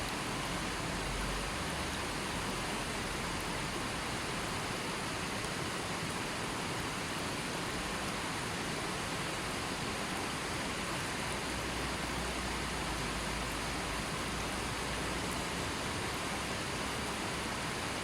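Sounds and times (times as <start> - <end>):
river flowing over rocks: 0.0 - 18.0.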